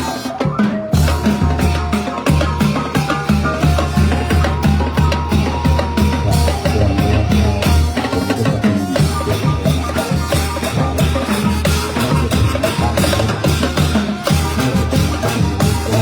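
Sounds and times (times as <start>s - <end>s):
brass band playing: 0.0s - 16.0s
drums keeping a beat: 0.0s - 16.0s.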